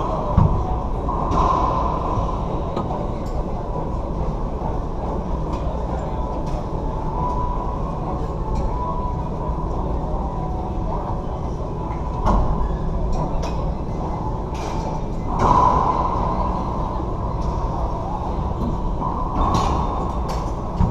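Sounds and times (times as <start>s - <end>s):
low rumble of room noise: 0.0s - 20.9s.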